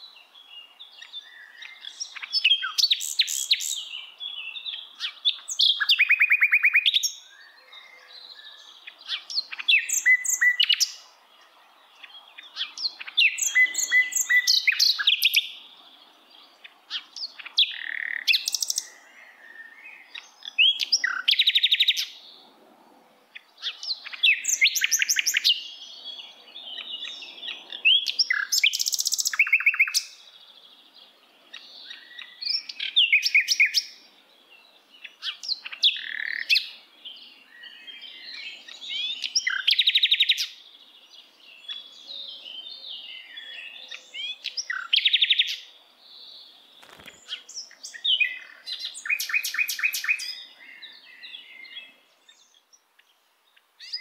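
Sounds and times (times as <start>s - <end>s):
songbird trilling and chirping: 0.0s - 22.4s, 23.3s - 54.0s.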